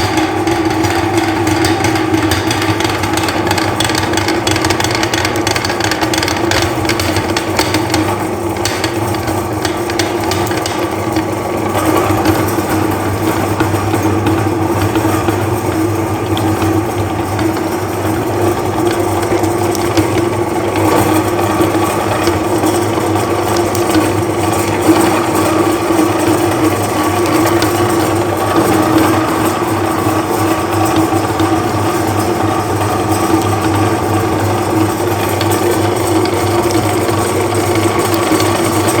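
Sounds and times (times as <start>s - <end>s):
electric meat grinder humming: 0.0s - 39.0s
grinder crunching chocolate: 0.0s - 39.0s.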